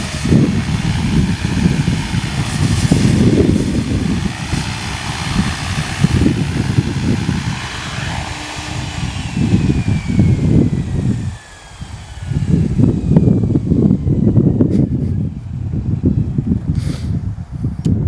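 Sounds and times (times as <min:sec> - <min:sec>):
rc helicopter motor whine: 0:00.0 - 0:18.0
wind buffeting microphone: 0:00.0 - 0:18.0.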